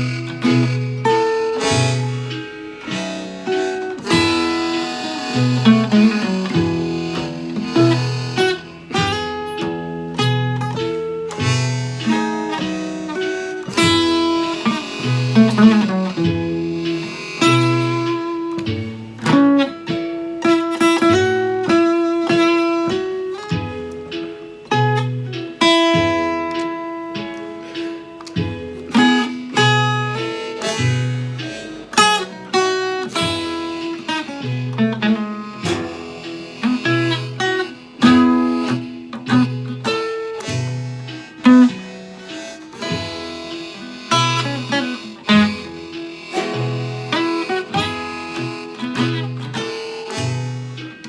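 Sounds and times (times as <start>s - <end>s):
blues guitar playing: 0.0s - 51.0s.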